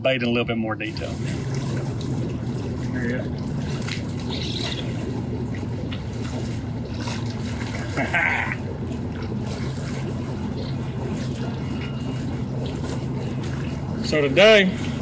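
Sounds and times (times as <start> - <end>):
steady low hum: 0.0 - 15.0
water lapping around a boat: 0.0 - 15.0
fish splash: 1.1 - 14.0.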